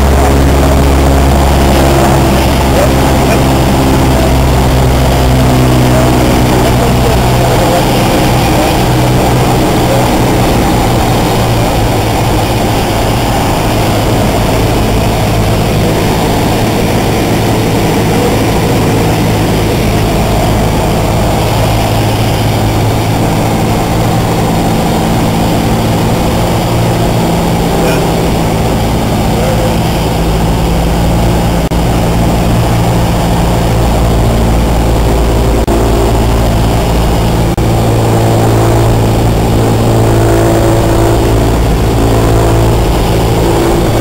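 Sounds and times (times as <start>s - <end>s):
light aircraft engine drone in cabin: 0.0s - 44.0s
wind rushing noise: 0.0s - 44.0s.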